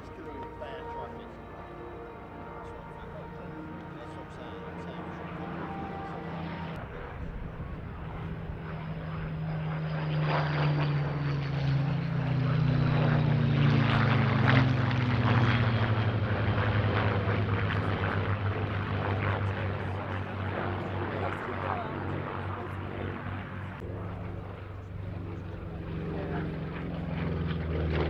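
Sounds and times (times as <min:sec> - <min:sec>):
propeller plane engine flying past: 0:00.0 - 0:28.0.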